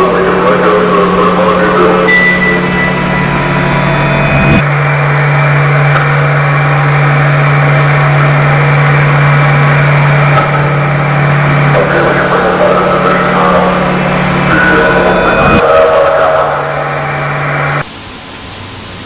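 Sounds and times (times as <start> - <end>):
loud low electrical hum: 0.0 - 19.0
static hiss: 0.0 - 19.0.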